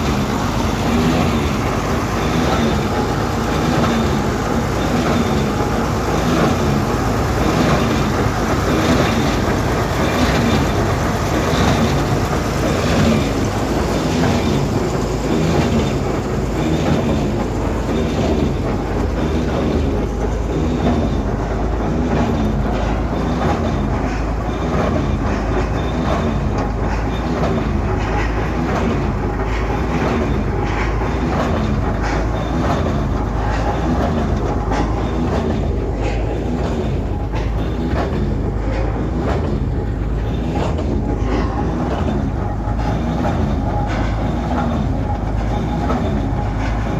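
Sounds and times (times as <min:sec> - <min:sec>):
train clattering: 0:00.0 - 0:46.9.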